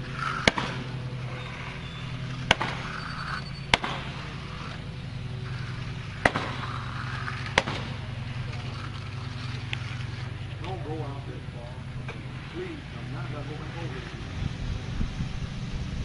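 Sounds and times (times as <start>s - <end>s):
engine hum: 0.0s - 16.0s.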